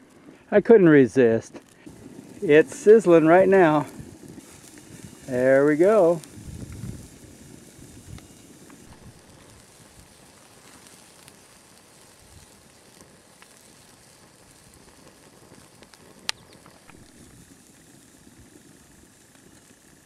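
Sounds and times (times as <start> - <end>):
patty sizzling: 0.0 - 20.0
wood fire crackling: 0.0 - 20.0.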